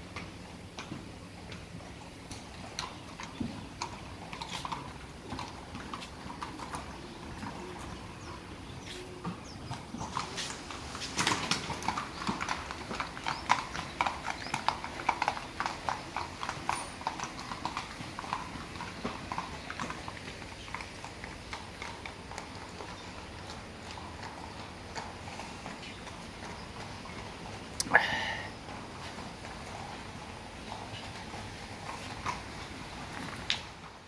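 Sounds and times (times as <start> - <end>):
hooves clip-clopping on concrete: 0.0 - 34.0.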